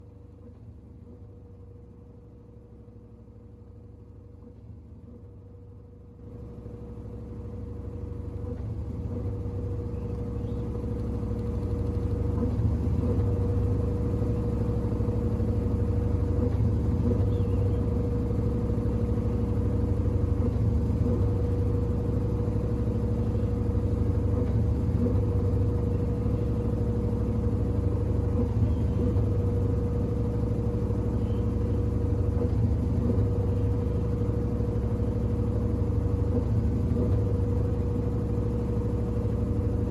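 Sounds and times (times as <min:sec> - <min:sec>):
washing machine running: 0:07.2 - 0:39.9.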